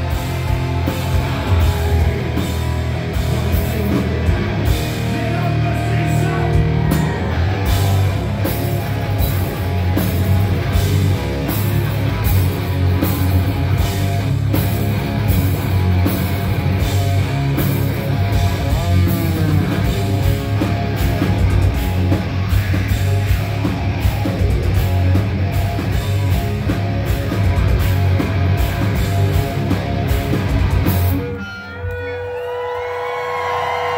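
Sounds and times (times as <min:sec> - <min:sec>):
heavy rock band playing: 0:00.0 - 0:33.9.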